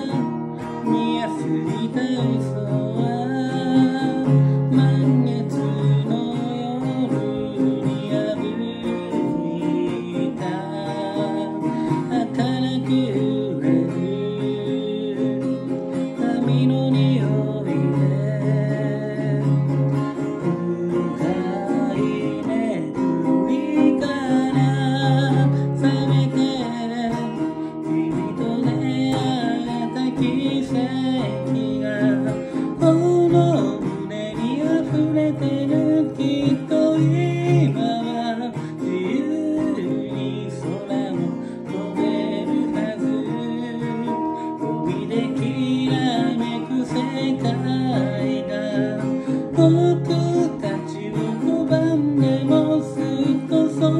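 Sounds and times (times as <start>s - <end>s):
acoustic guitar chords: 0.0s - 53.9s
person singing: 0.0s - 53.9s.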